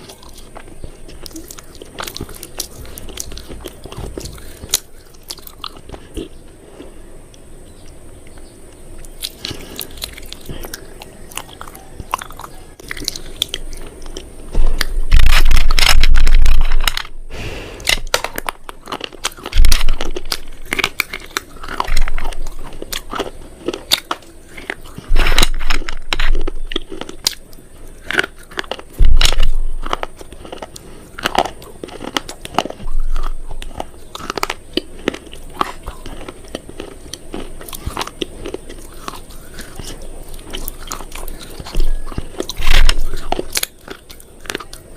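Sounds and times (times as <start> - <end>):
brittle crunching and crackling: 0.0 - 17.2, 17.8 - 44.9.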